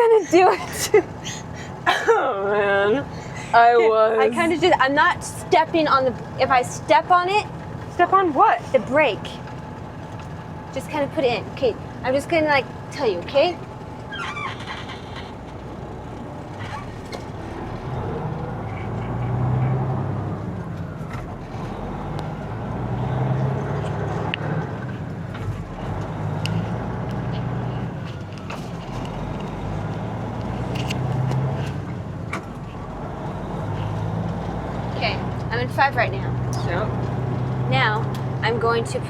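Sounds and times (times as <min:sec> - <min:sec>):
truck diesel engine shifting gears: 0:00.0 - 0:39.0.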